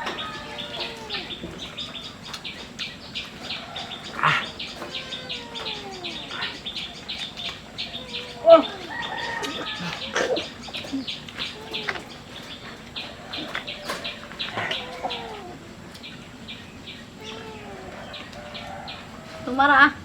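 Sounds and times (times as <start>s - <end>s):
chickens clucking: 0.0s - 20.0s
small birds chirping: 0.0s - 20.0s.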